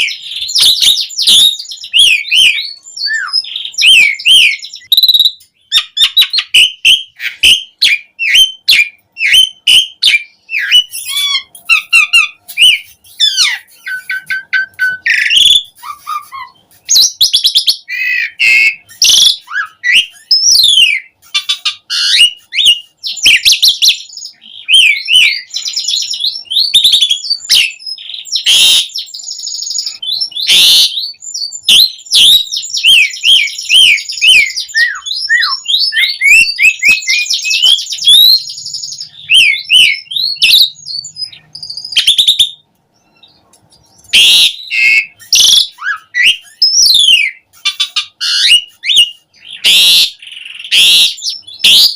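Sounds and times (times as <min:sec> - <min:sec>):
starling singing: 0:00.0 - 0:51.9.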